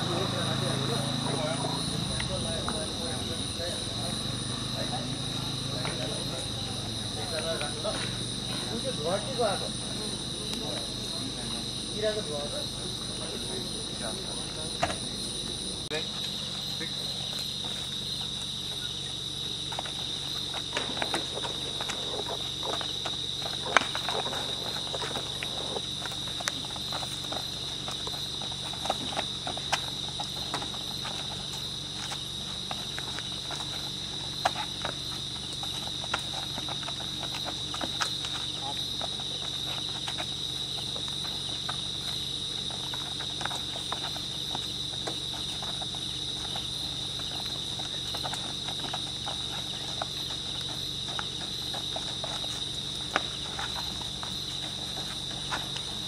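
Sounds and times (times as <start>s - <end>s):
crickets chirring: 0.0s - 56.0s
footsteps on road: 0.0s - 56.0s.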